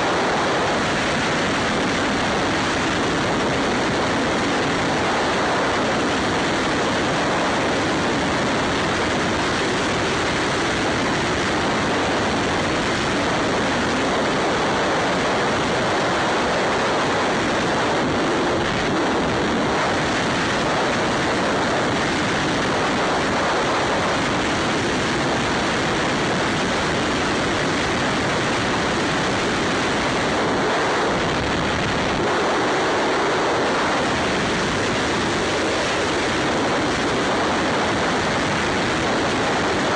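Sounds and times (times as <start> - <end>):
motorcycle road noise: 0.0 - 39.9
wind rush: 0.0 - 39.9.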